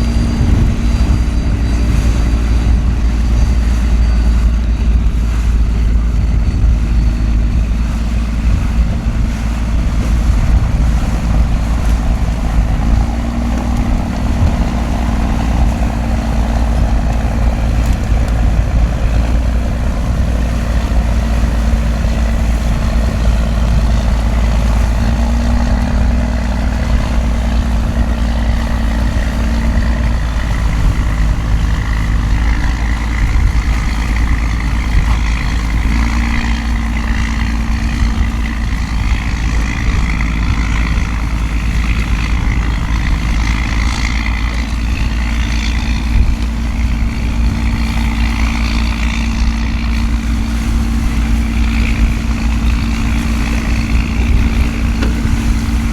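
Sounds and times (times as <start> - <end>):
boat engine running low: 0.0 - 55.9.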